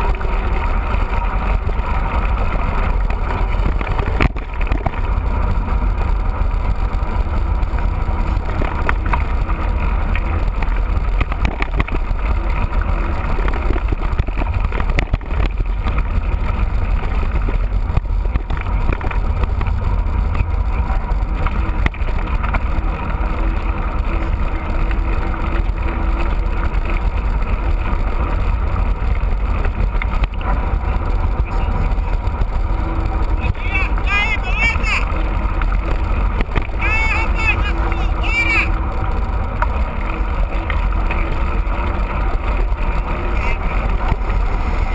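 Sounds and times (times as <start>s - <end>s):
wind rumble on microphone: 0.0s - 44.9s.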